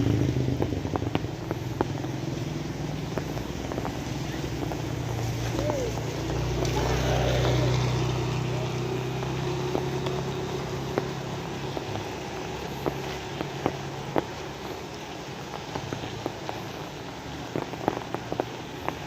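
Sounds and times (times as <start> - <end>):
sharp drips: 0.0 - 19.0
steady rain: 0.0 - 19.0
vehicle engine humming: 0.0 - 19.0.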